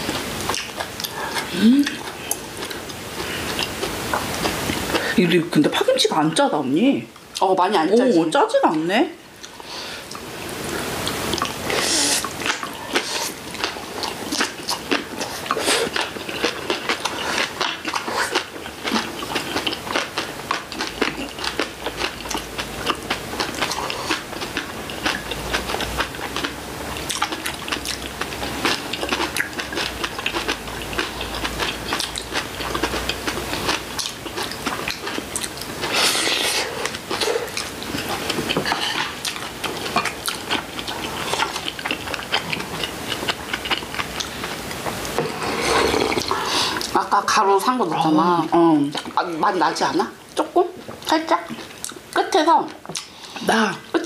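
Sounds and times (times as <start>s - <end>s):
chewing crunchy vegetables: 0.0s - 5.2s, 8.7s - 54.0s.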